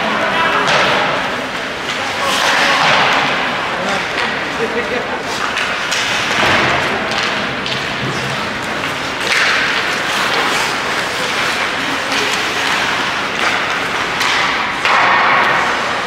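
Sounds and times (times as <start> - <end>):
crowd applause and voices: 0.0 - 16.0.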